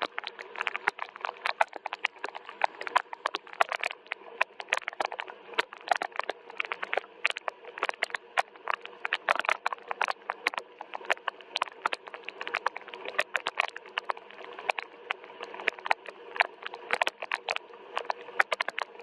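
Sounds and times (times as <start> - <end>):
soft rain drops tapping: 0.0 - 19.0.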